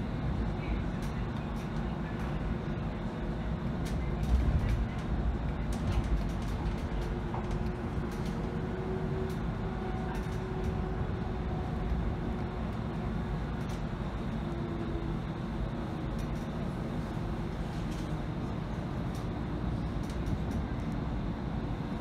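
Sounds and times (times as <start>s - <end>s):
faint whine: 0.0s - 22.0s
light rail interior rumble: 0.0s - 22.0s.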